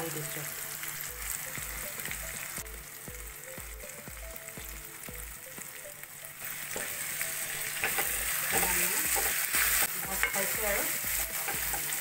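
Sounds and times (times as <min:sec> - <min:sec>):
background music with steady beat: 0:00.0 - 0:12.0
onions sizzling in hot oil: 0:00.0 - 0:12.0.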